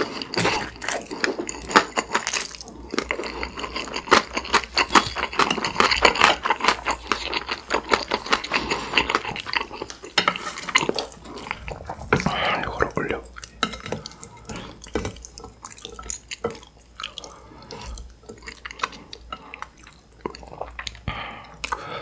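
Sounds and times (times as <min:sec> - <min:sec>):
wet chewing of noodles: 0:00.0 - 0:22.0.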